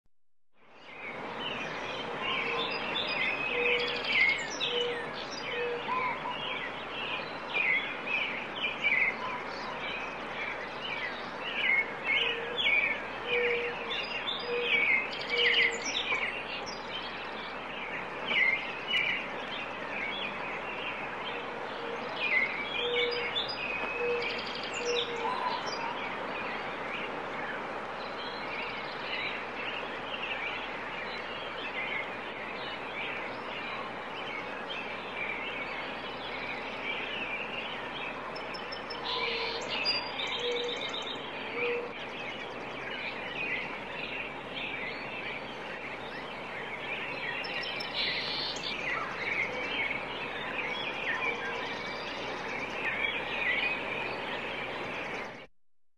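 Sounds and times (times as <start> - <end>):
songbirds chirping and trilling: 0.6 - 55.5
steady background hiss: 0.6 - 55.5.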